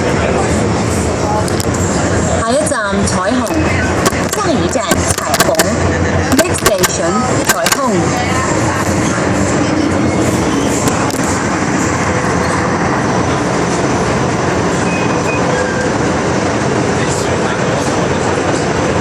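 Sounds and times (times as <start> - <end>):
metro train rumbling: 0.0 - 19.0.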